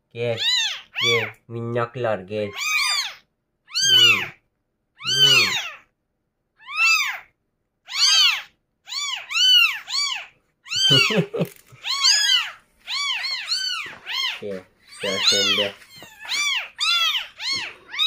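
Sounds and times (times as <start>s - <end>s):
kittens mewing: 0.2s - 1.5s, 2.4s - 6.0s, 6.6s - 18.0s.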